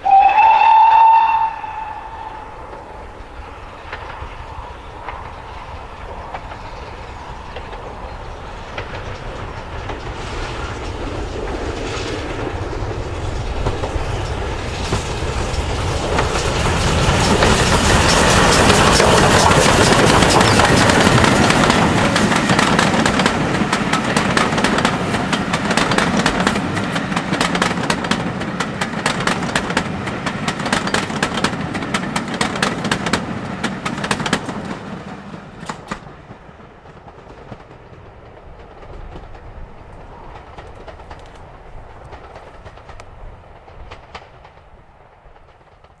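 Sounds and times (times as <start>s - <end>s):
train low rumble: 0.0s - 46.0s
train wheels clicking over rail joints: 0.1s - 46.0s.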